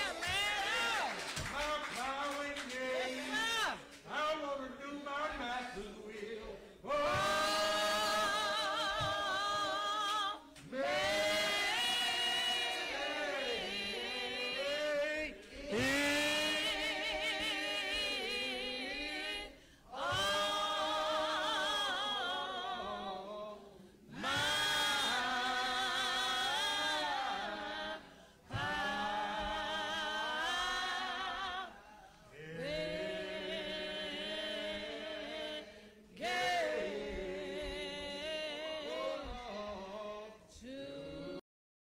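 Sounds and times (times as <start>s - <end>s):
voices singing a hymn: 0.0s - 41.4s.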